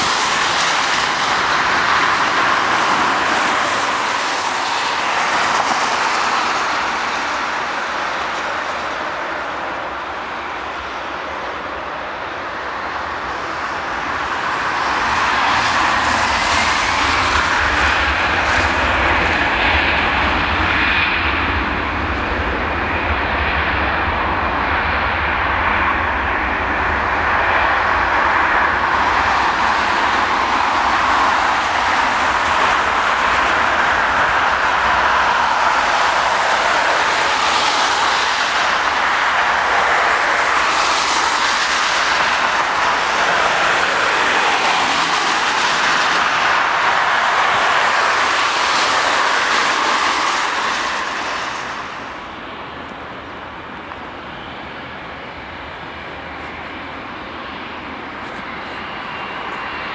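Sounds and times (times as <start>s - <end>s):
jet airliner taking off: 0.0s - 59.9s.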